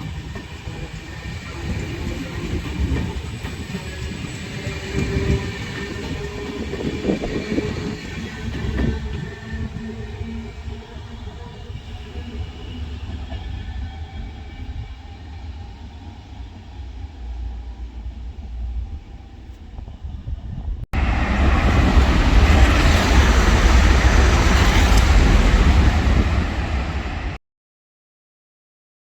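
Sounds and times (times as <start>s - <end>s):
high-speed train rushing past: 0.0s - 27.4s
train low rumble: 0.0s - 27.4s.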